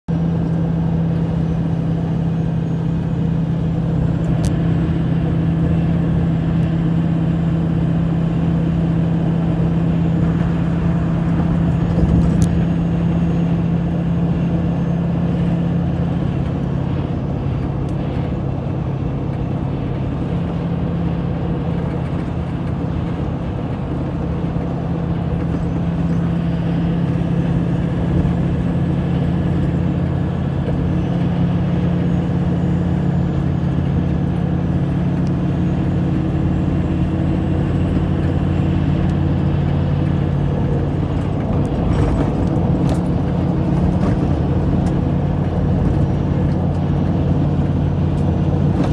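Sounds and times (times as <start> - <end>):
engine drone: 0.0 - 48.9
tyre and road noise: 0.1 - 48.9.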